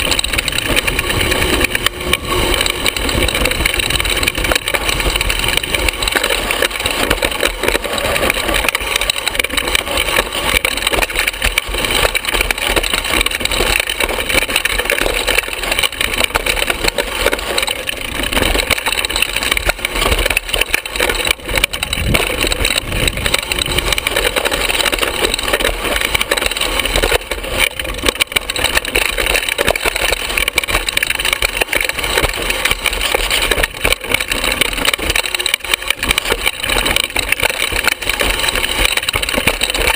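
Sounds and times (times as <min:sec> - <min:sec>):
mountain bike rattling over rough trail: 0:00.0 - 0:39.9
tyres rolling on dirt and rock: 0:00.0 - 0:39.9.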